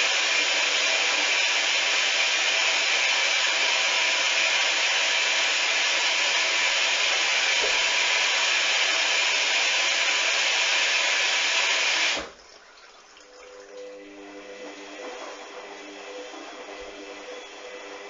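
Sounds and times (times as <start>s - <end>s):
water rushing through washing machine: 0.0s - 18.0s.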